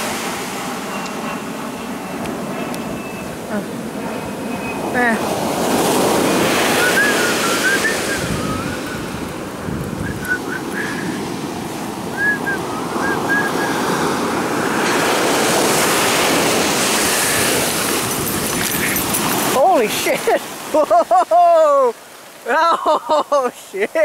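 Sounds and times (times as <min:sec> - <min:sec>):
ocean waves breaking on shore: 0:00.0 - 0:24.0.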